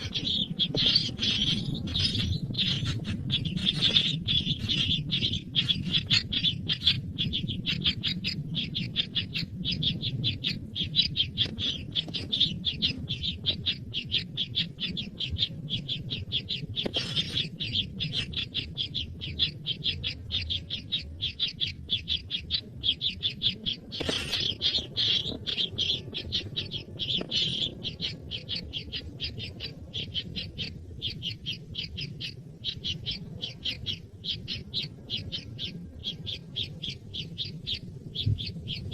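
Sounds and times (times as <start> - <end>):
baby bird chirping: 0.0 - 38.9
harsh bird calls: 0.0 - 38.9.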